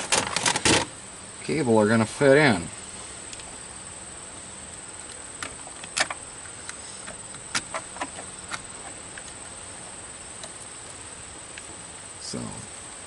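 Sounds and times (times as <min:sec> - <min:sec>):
insect chirring: 0:02.2 - 0:13.0.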